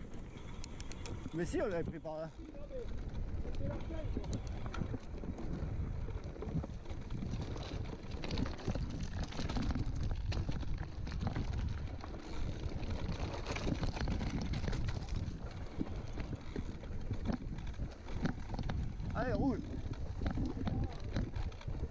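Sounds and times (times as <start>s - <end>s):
bike rattling with sharp knocks: 0.0s - 21.9s
bike tyres crunching over stones: 0.0s - 21.9s
wind rumble on microphone: 0.0s - 21.9s.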